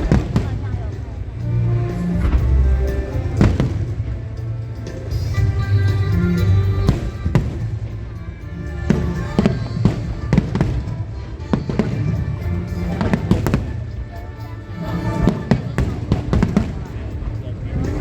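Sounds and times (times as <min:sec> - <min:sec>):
music playing: 0:00.0 - 0:18.0.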